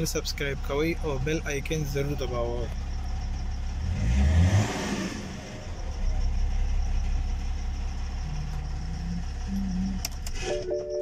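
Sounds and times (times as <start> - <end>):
loud diesel engine idling: 0.0 - 4.2, 5.3 - 10.8
diesel engine revving: 0.0 - 10.8.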